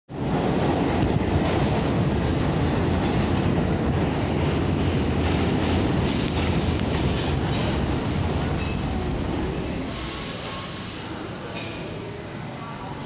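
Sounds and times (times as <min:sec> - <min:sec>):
subway train wheels rumbling on rails: 0:00.1 - 0:13.0.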